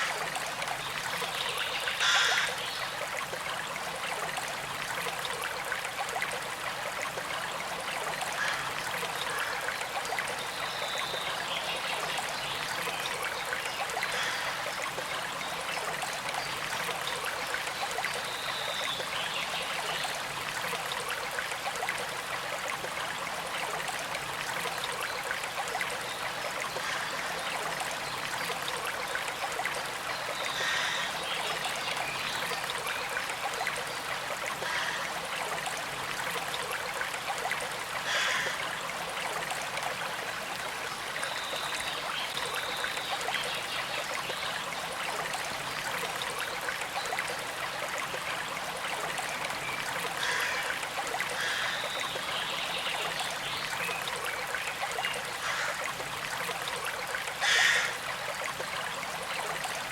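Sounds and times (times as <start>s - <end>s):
creek trickling: 0.0s - 59.9s
water gurgles: 0.0s - 59.9s.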